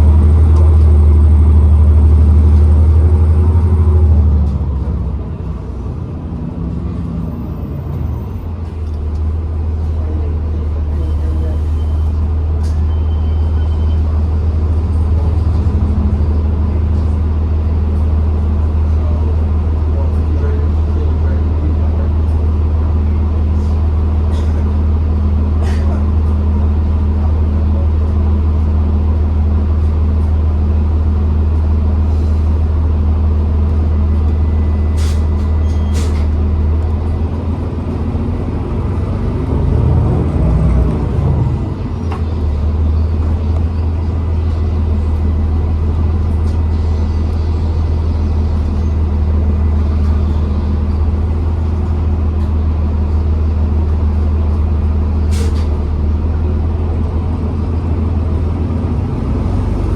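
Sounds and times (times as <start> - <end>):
bus engine drone: 0.0 - 59.9.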